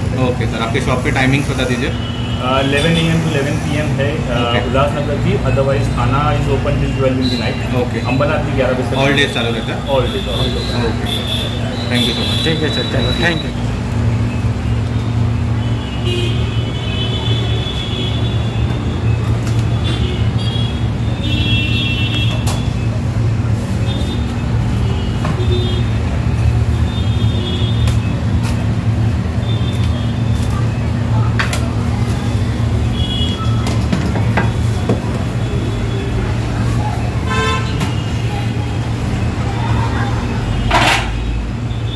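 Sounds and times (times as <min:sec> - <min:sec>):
low hum of kitchen machinery: 0:00.0 - 0:41.9.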